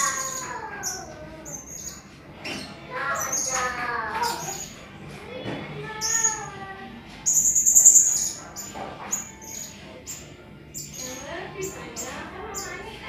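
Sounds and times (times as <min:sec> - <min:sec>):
buzzy high bird trill: 0:00.0 - 0:04.9, 0:05.9 - 0:06.6, 0:07.2 - 0:13.0.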